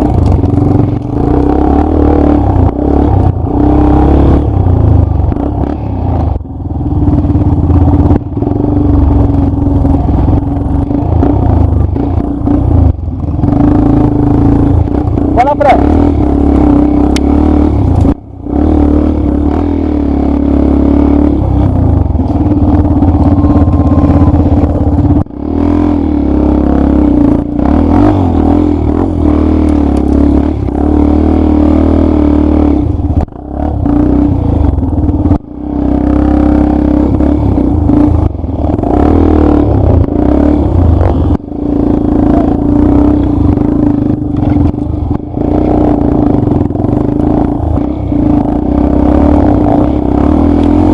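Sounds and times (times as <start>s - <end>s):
dirt bike engine running: 0.0s - 50.9s.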